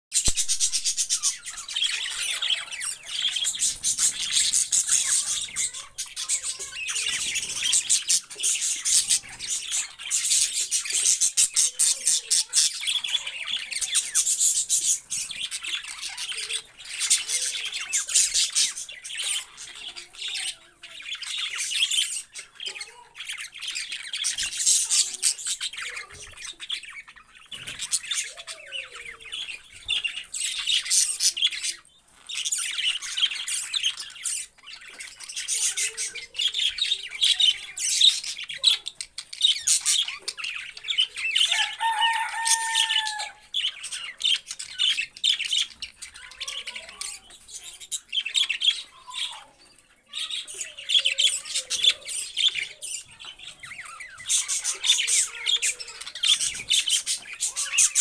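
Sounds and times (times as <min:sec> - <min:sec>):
budgerigars chattering: 0:00.2 - 0:58.0.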